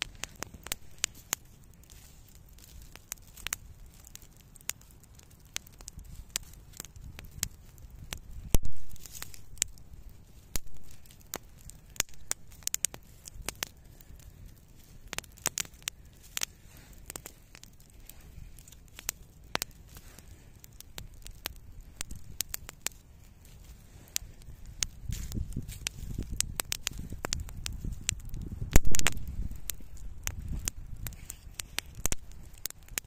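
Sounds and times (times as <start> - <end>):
sharp crackles and snaps: 0.0 - 33.0.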